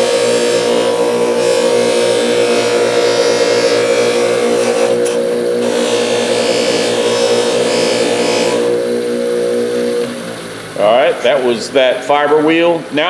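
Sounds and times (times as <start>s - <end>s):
polishing wheel motor humming: 0.0s - 13.0s.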